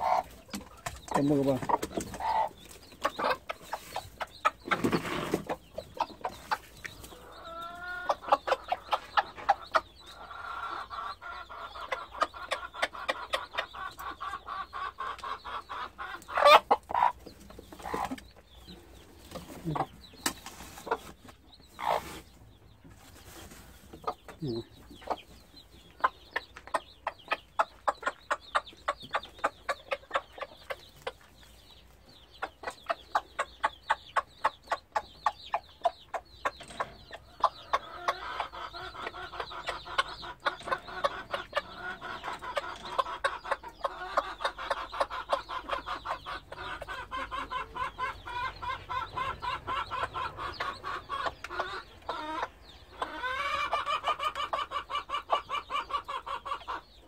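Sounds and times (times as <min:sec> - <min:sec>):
chicks peeping: 0:00.0 - 0:57.0
hen clucking: 0:00.0 - 0:57.0.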